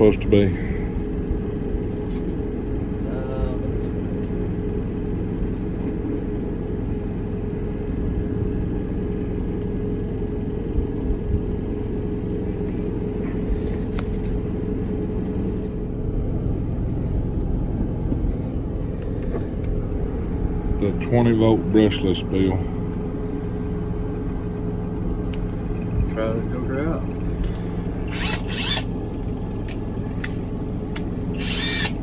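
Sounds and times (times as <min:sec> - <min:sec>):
low machine rumble and hum: 0:00.0 - 0:32.0.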